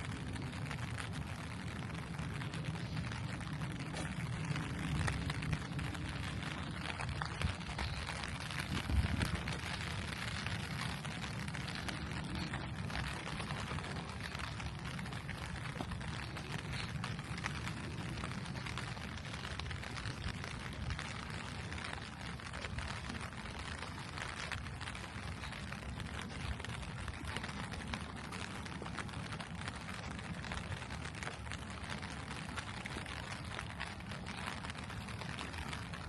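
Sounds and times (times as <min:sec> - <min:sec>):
rain falling on a street: 0:00.0 - 0:36.0.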